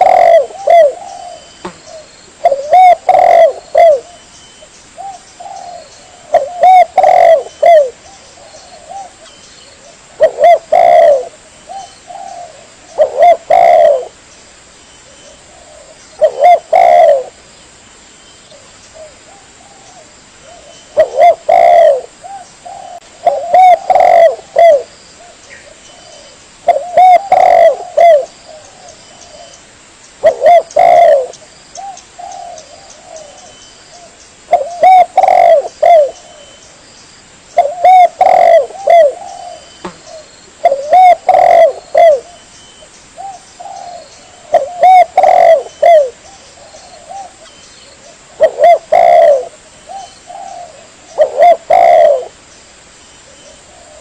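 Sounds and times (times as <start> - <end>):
dove cooing: 0.0 - 4.3, 5.0 - 14.2, 15.2 - 17.4, 18.5 - 29.6, 30.2 - 36.6, 37.6 - 42.5, 43.2 - 52.4.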